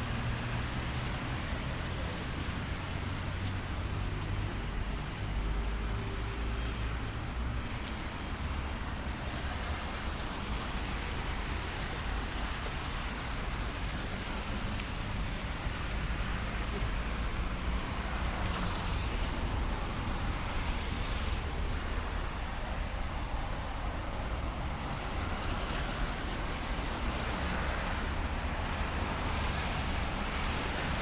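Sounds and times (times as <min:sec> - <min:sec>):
rumble of vehicles: 0:00.0 - 0:31.0
tyre hiss on wet road: 0:00.1 - 0:31.0.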